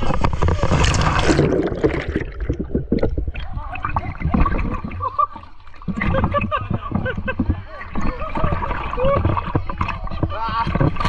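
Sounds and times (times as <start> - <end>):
water gurgling and bubbling: 0.0 - 11.0
water splashing: 0.0 - 11.0.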